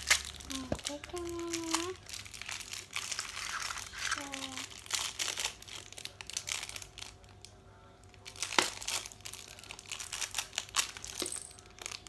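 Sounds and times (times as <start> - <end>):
toy package wrapping crinkling: 0.0 - 7.4, 8.1 - 12.0.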